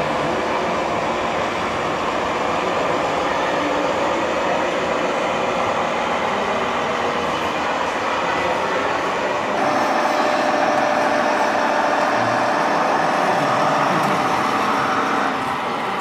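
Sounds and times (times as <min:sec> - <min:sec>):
toy truck diesel engine noise: 0:00.0 - 0:16.0.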